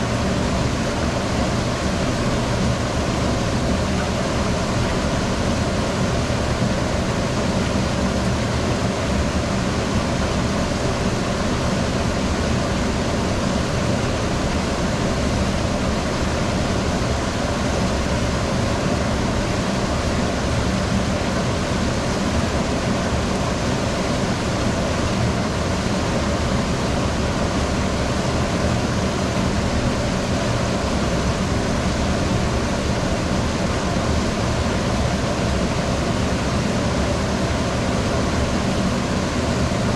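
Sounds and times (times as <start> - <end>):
water rushing through flume: 0.0 - 39.9.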